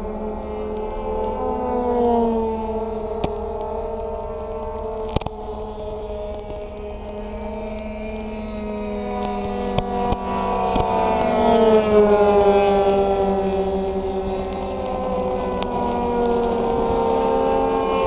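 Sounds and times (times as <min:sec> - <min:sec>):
electrical whine: 0:00.0 - 0:18.0.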